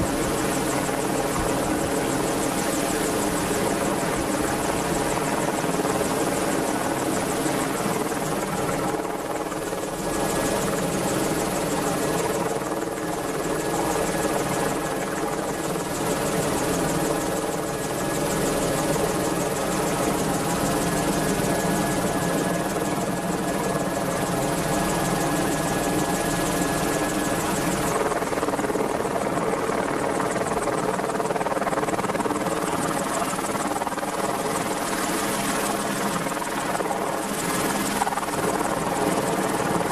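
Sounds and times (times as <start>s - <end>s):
helicopter rotor and turbine whine: 0.0s - 39.9s.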